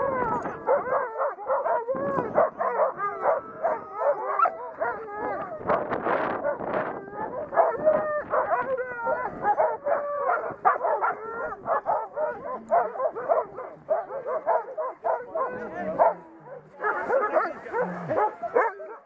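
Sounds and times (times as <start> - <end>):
sled dogs barking and yipping: 0.0 - 19.0.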